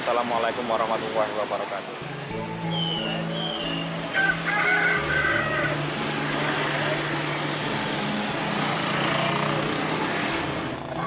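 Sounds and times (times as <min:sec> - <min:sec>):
motor scooter engines passing: 0:00.0 - 0:11.0.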